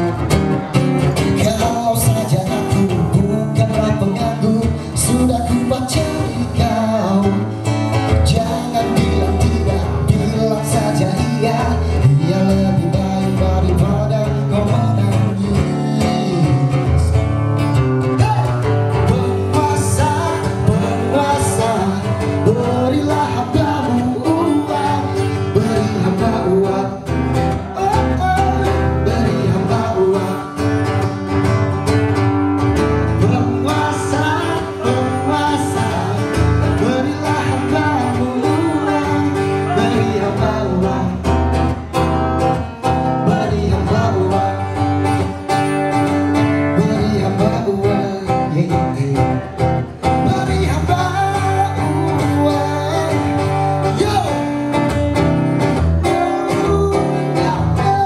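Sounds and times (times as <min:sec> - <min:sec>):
person singing: 0:00.0 - 0:17.2, 0:18.1 - 0:31.2, 0:33.2 - 0:46.0, 0:46.6 - 0:58.0
strummed acoustic guitars: 0:00.0 - 0:58.0.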